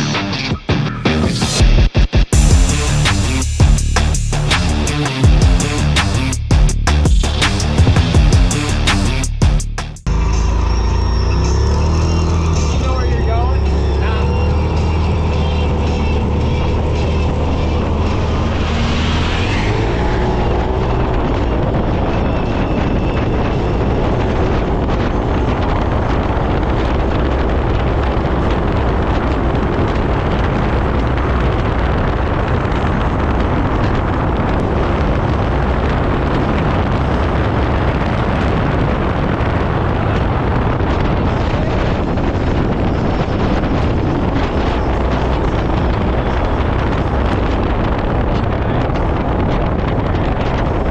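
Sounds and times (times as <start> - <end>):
vehicle engine hum: 2.3 - 50.9
wind rush on microphone: 10.0 - 50.9.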